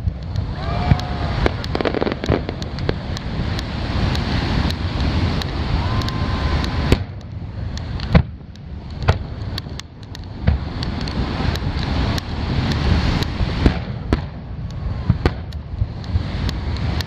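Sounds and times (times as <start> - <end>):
distant fireworks bangs: 0.0 - 17.0
fireworks pops: 0.0 - 17.0
surf rumble: 0.0 - 17.0
wind on microphone: 0.0 - 17.0.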